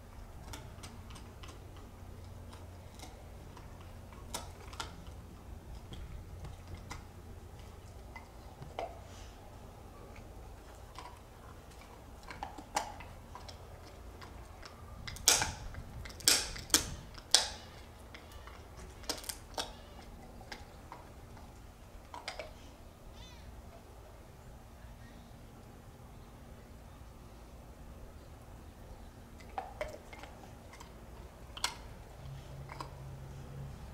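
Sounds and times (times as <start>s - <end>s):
dog gnawing on a bone: 0.0s - 22.8s, 29.1s - 33.9s.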